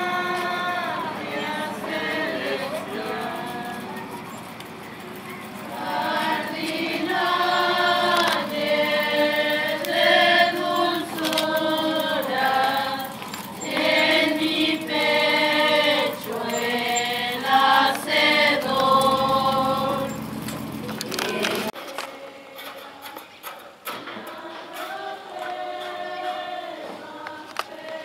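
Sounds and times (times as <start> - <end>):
group singing a hymn: 0.0 - 23.3, 23.9 - 28.0.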